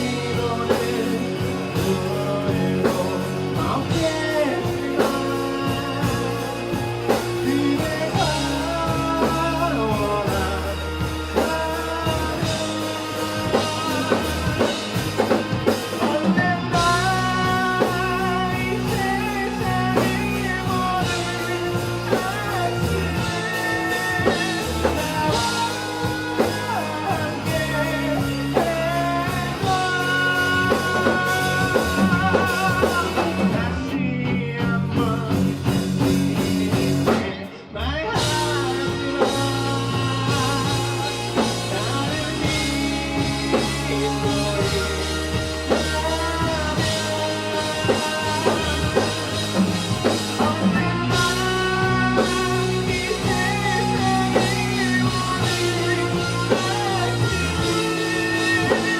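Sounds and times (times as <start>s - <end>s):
bass guitar: 0.0s - 58.9s
drum kit: 0.0s - 58.9s
electric guitars: 0.0s - 58.9s
person singing: 0.0s - 58.9s.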